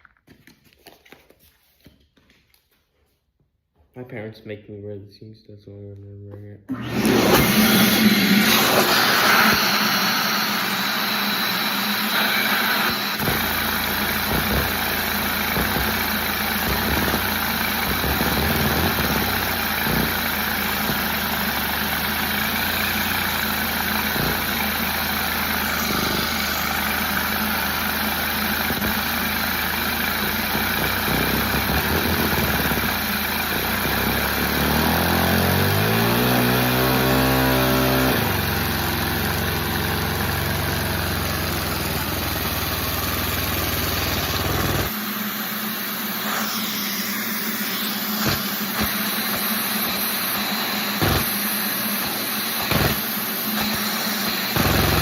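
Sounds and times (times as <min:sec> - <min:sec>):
small engine running: 0:06.7 - 0:55.0.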